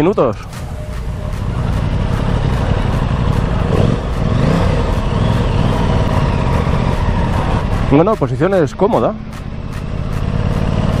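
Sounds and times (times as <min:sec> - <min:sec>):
motorcycle engine running: 0:00.0 - 0:11.0
steady low rumble: 0:00.0 - 0:11.0.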